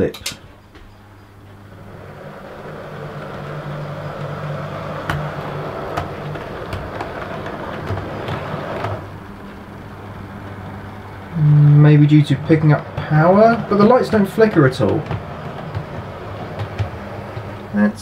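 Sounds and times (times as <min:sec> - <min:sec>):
wheels clicking over points: 0:01.3 - 0:18.0
model train motor hum: 0:01.4 - 0:18.0.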